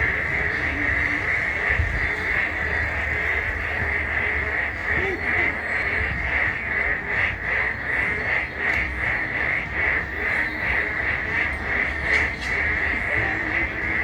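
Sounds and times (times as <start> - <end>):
frogs calling: 0.0 - 14.0.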